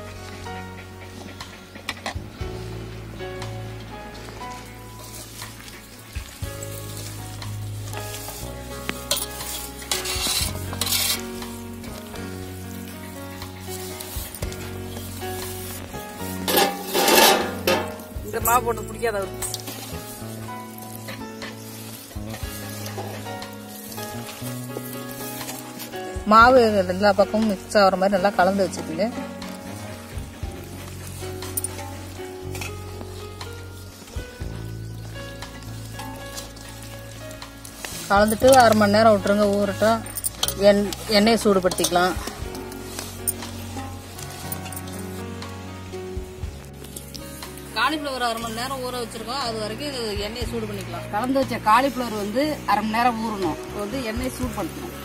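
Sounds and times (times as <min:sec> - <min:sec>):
background music: 0:00.0 - 0:55.0.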